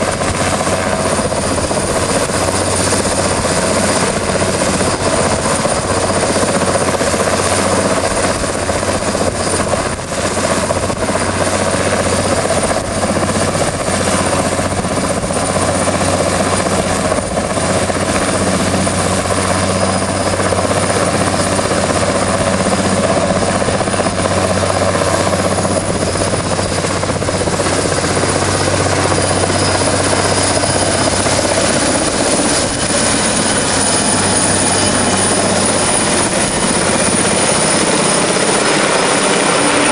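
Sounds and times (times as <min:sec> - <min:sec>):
helicopter rotor and engine din: 0:00.0 - 0:39.9
high turbine whine: 0:00.0 - 0:39.9.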